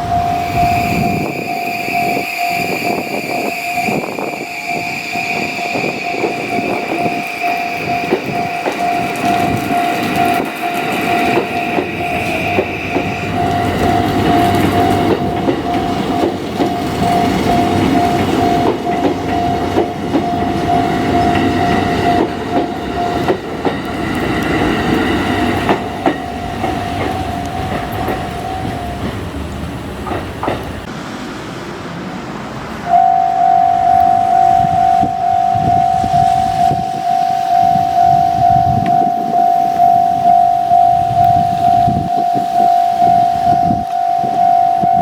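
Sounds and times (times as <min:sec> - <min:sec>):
level crossing electronic alarm: 0:00.0 - 0:29.1, 0:32.8 - 0:45.0
train wheels clacking on rails: 0:00.0 - 0:31.0, 0:31.9 - 0:45.0.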